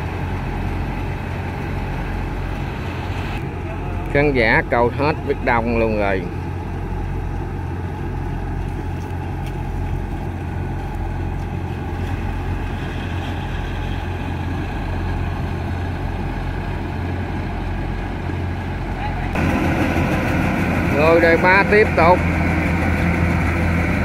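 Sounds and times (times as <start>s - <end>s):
diesel engines droning: 0.0s - 24.0s.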